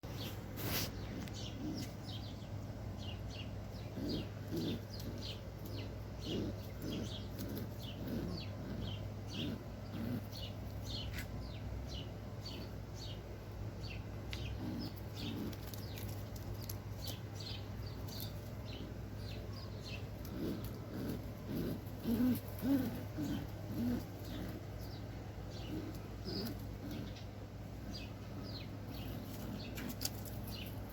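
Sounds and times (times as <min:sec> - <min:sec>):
constant low hum: 0:00.0 - 0:30.9
pigeons cooing: 0:00.1 - 0:30.9.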